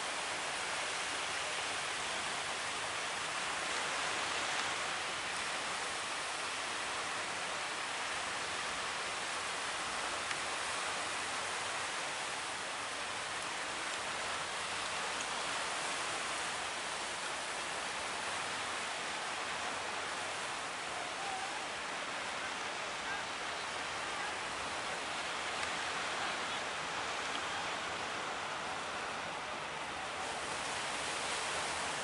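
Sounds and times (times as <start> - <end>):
ocean surf breaking: 2.3 - 32.0.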